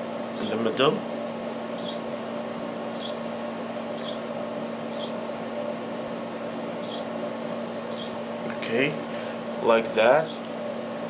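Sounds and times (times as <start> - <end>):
mechanical room hum: 0.0 - 11.0.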